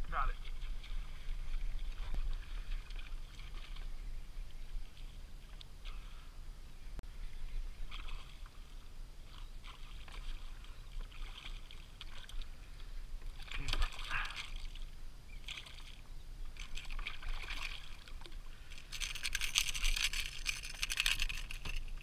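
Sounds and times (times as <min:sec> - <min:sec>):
water splashing against kayak: 0:00.0 - 0:06.3, 0:07.3 - 0:22.0.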